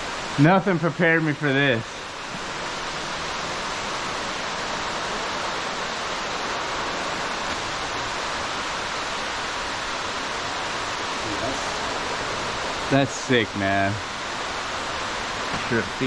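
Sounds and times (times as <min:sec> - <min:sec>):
underground waterfall pouring: 0:00.0 - 0:16.0.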